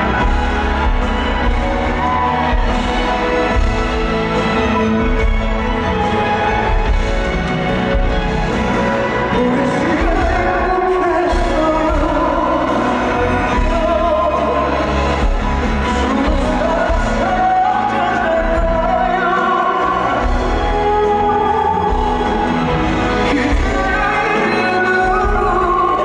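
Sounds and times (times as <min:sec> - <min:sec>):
live band playing a ballad: 0:00.0 - 0:26.0.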